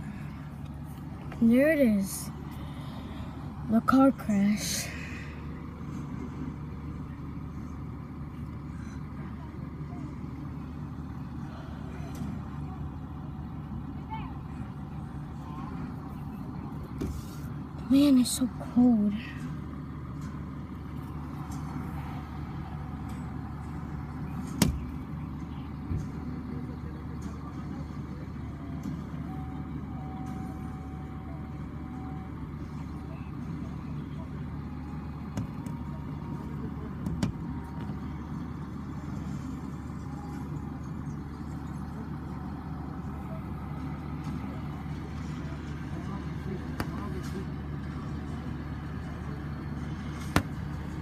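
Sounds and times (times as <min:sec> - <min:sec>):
vehicle engines idling: 0:00.0 - 0:51.0.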